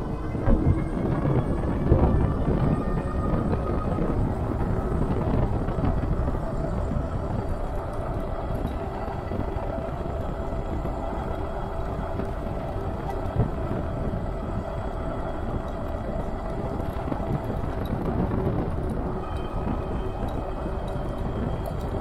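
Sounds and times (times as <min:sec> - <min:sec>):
faint steady whine: 0:00.0 - 0:22.0
tyre and road noise: 0:00.0 - 0:22.0
wind rumble on microphone: 0:00.0 - 0:22.0.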